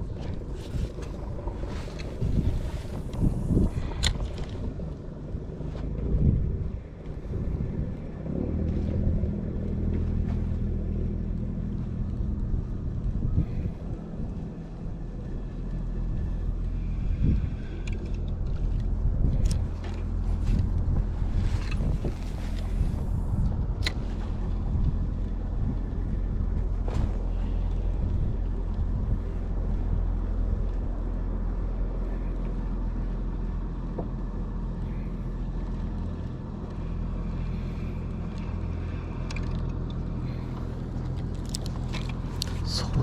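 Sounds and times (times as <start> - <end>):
small boat motor humming: 0.0 - 43.0.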